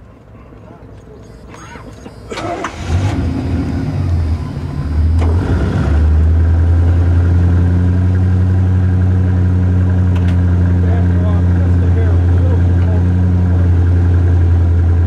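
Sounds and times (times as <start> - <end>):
engine idling: 1.0 - 15.0.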